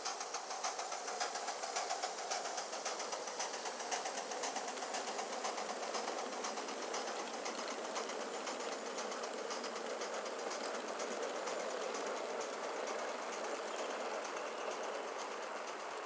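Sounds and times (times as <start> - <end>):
coaches clattering on track: 0.0 - 16.0
model steam locomotive chuffing: 0.0 - 16.0.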